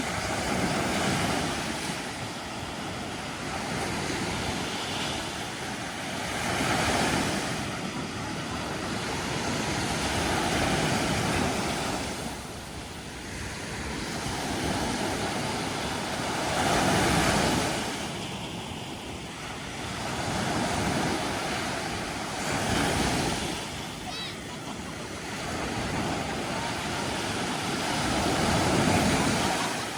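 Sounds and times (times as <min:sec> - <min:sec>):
sea waves breaking on beach: 0:00.0 - 0:29.9.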